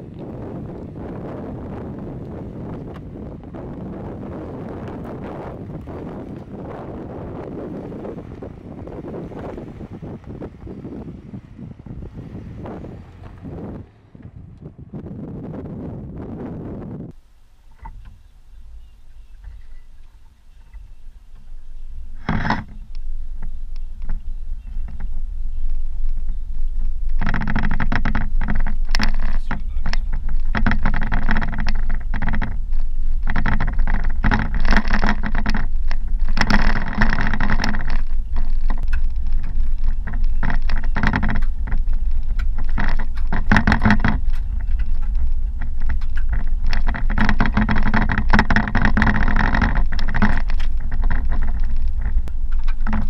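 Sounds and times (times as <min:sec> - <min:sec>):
buzzing rattle and clatter: 0:00.0 - 0:53.0
tyres rumbling on gravel: 0:00.0 - 0:53.0.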